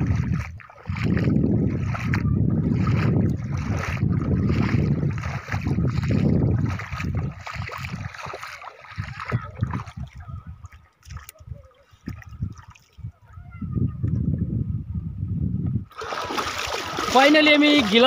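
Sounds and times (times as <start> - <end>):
river water sloshing and splashing: 0.0 - 13.1, 15.9 - 18.0
wind on microphone: 0.0 - 18.0.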